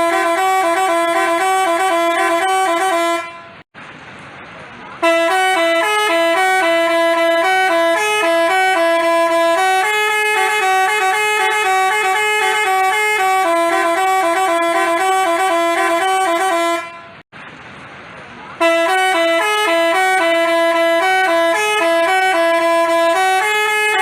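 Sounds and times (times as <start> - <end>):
multi-tone bus horn melody: 0.0 - 3.7, 5.0 - 17.3, 18.6 - 24.0.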